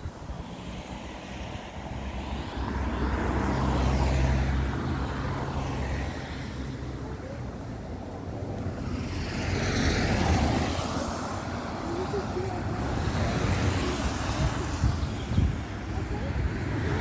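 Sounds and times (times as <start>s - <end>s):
cars passing on wet road: 0.0s - 17.0s.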